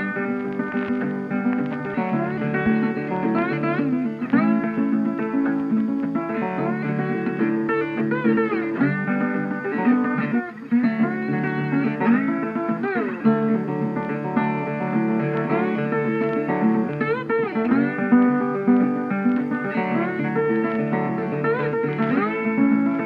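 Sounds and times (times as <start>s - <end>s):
blues guitar music: 0.0s - 23.0s.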